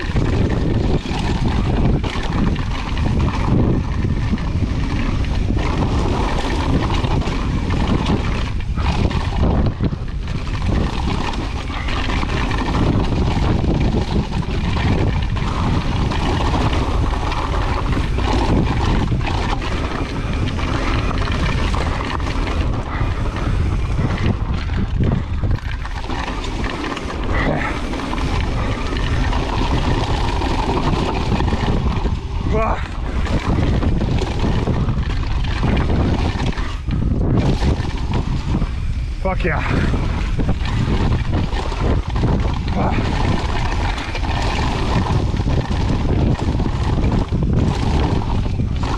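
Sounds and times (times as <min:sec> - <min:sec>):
mountain bike rattling: 0:00.0 - 0:48.9
tyres crunching over rock: 0:00.0 - 0:48.9
wind on microphone: 0:00.0 - 0:48.9.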